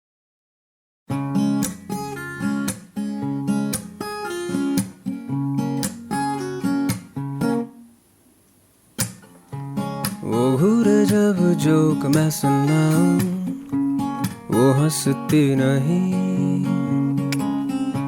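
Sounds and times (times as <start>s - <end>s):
acoustic guitar strumming: 1.1s - 8.0s, 9.0s - 18.0s.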